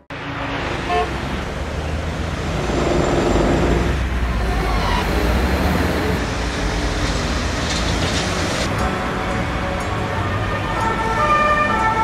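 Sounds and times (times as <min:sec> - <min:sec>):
road traffic passing: 0:00.0 - 0:12.0
metro train rumbling: 0:00.4 - 0:11.9.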